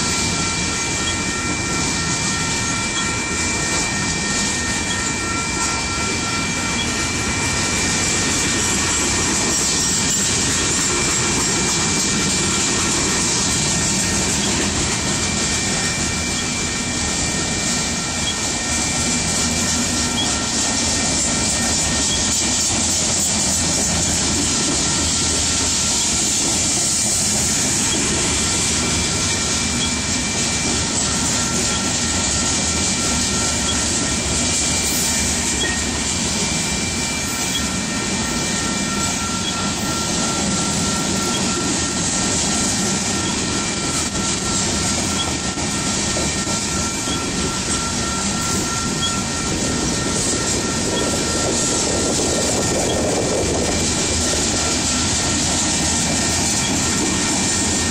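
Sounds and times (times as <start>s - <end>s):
freight train wheels rumbling: 0.0s - 57.9s
steady high whine: 0.0s - 57.9s.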